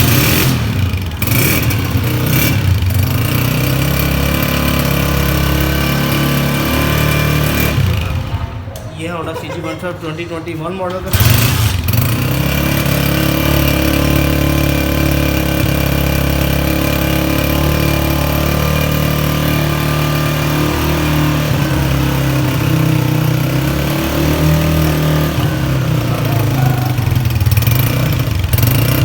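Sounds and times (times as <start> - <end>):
motorcycle engine idling: 0.0 - 6.6, 11.1 - 29.0.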